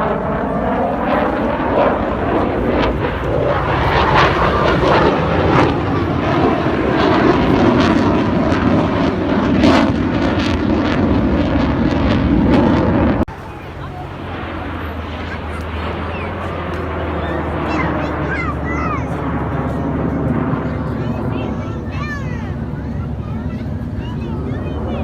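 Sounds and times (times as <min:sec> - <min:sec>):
aircraft flying past low: 0:00.0 - 0:25.0.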